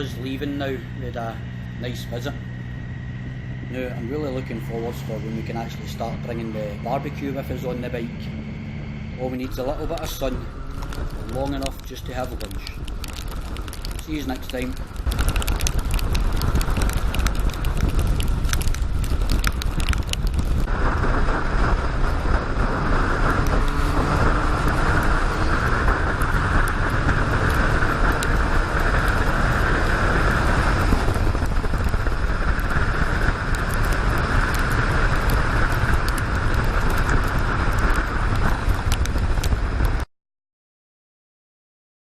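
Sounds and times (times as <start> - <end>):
motorcycle engine and road rumble: 0.0 - 40.1
wind rushing over microphone: 0.0 - 40.1.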